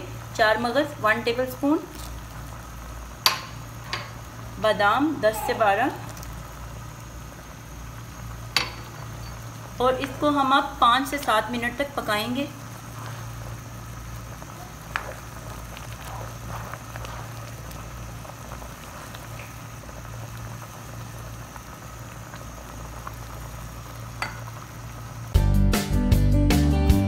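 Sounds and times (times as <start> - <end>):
pot bubbling at a boil: 0.0 - 25.4.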